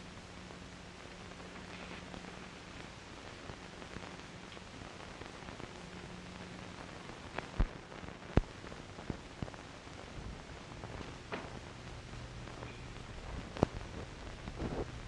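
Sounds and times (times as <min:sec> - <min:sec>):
faint low hum: 0:00.0 - 0:15.0
film soundtrack hiss: 0:00.0 - 0:15.0.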